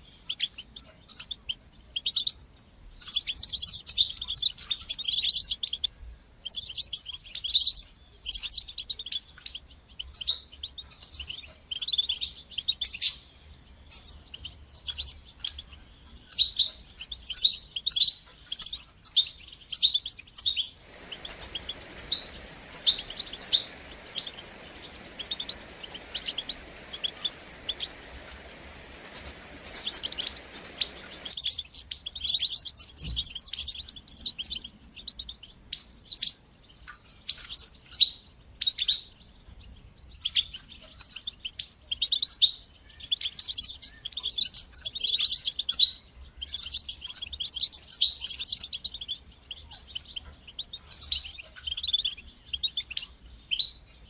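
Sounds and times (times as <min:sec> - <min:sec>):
background hiss: 0:00.0 - 0:54.0
goldfinch twittering song: 0:00.0 - 0:54.0.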